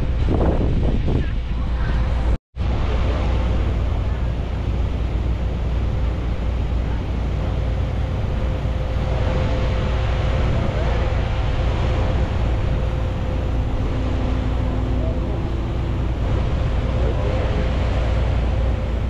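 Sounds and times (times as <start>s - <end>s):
boat engine drone: 0.0s - 19.0s
wind and water rushing: 0.0s - 19.0s
thin steady whine: 1.8s - 19.0s.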